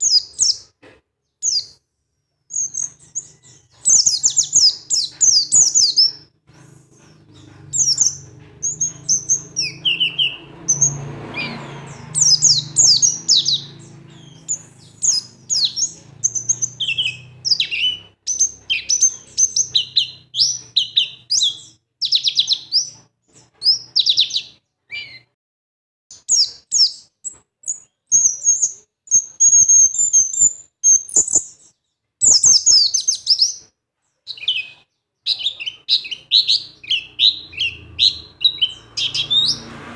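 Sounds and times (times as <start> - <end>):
small bird chirping: 0.0 - 25.4, 26.1 - 39.9.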